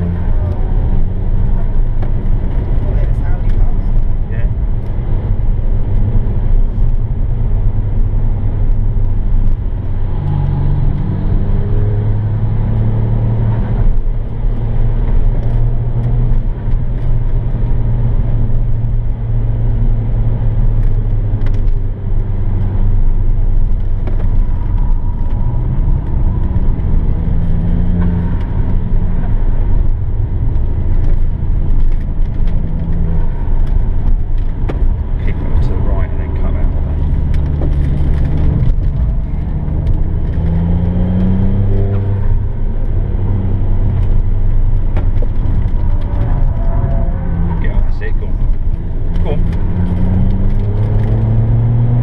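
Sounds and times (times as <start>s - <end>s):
car engine running hard: 0.0s - 52.0s
road noise: 0.0s - 52.0s.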